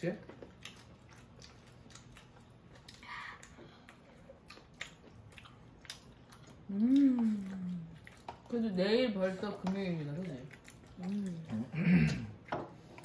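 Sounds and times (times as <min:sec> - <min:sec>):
chewing and eating sounds: 0:00.0 - 0:13.0.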